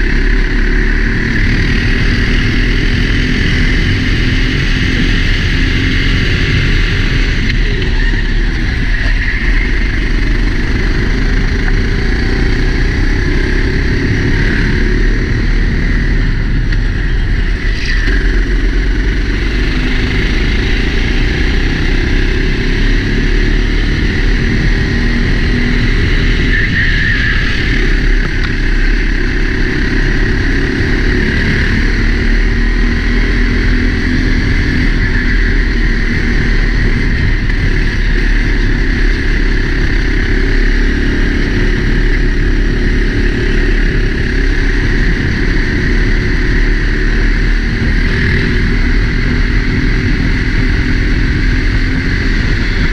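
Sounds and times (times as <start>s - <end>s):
kart engine running: 0.0s - 52.9s.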